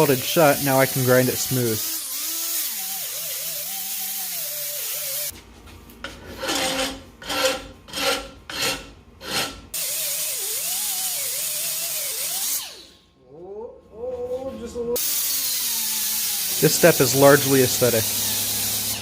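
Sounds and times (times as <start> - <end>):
rotary grinder on metal: 0.0 - 5.3, 6.3 - 13.0, 15.0 - 19.0.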